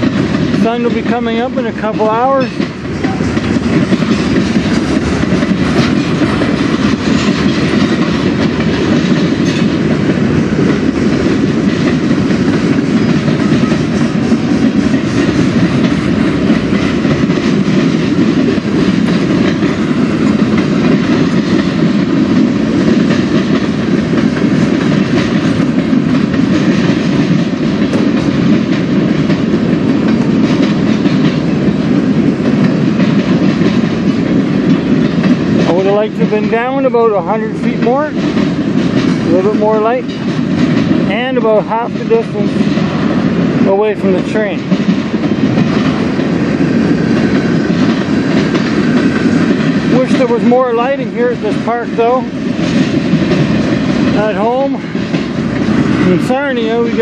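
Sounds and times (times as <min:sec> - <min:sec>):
freight train rumbling: 0:00.0 - 0:57.0
wheels clicking over rail joints: 0:00.0 - 0:57.0.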